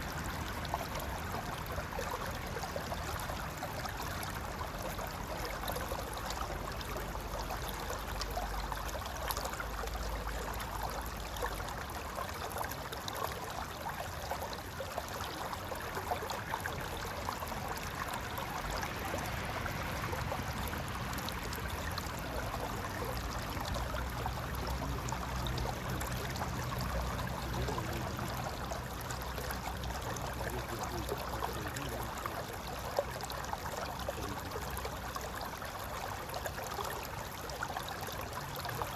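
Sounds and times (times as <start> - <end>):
river gurgling over rocks: 0.0 - 38.9.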